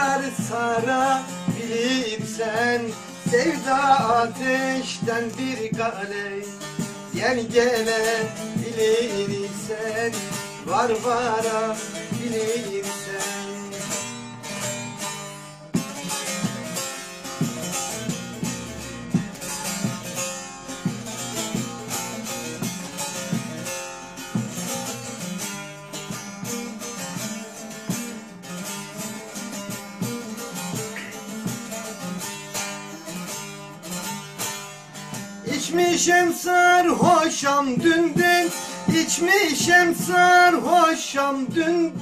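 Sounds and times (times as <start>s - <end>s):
plucked string instrument melody: 0.0s - 42.0s
strummed accompaniment: 0.0s - 42.0s.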